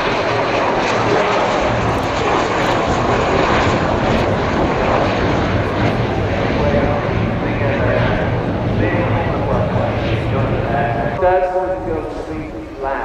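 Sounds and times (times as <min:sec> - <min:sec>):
jet fighter flying past: 0:00.0 - 0:13.0.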